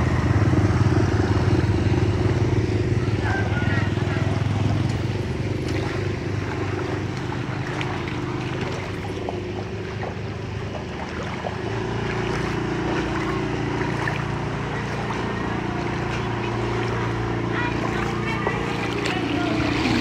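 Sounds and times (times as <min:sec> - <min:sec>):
small engine running: 0:00.0 - 0:20.0
water washing and splashing: 0:00.0 - 0:20.0.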